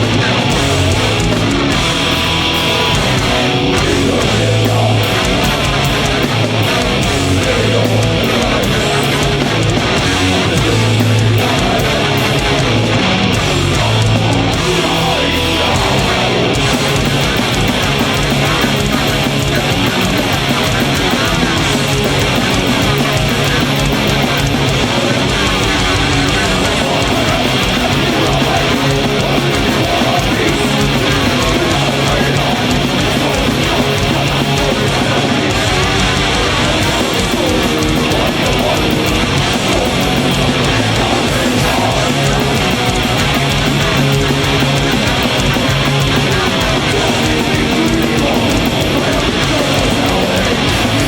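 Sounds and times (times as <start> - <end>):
heavy metal band playing: 0.0 - 51.0.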